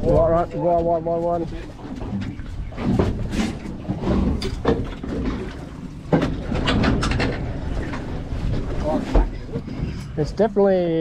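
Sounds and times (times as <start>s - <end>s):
knocks and clunks on boat: 0.0s - 10.5s.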